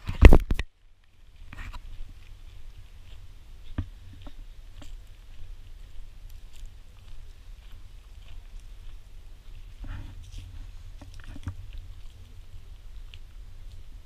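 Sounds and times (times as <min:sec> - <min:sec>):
footsteps on paved path: 0:00.0 - 0:14.0
low rumble of wind: 0:00.0 - 0:14.0.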